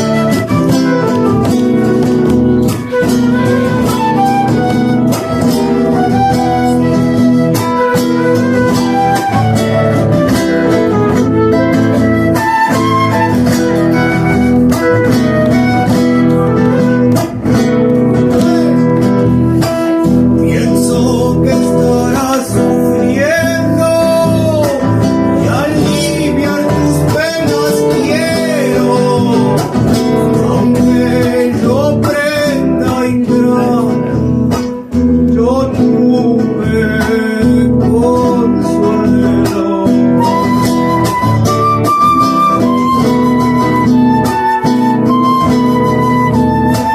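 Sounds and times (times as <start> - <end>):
acoustic guitars strumming: 0.0 - 46.9.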